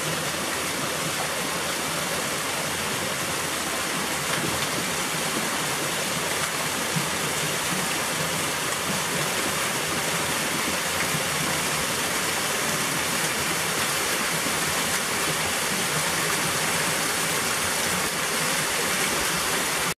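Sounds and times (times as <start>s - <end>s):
small waterfall splashing: 0.0s - 20.0s.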